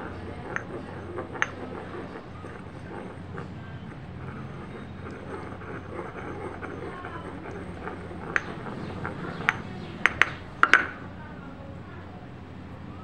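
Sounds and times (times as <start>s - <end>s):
pestle grinding wet paste: 0.0s - 11.0s
stone-on-stone clicks: 0.1s - 11.0s.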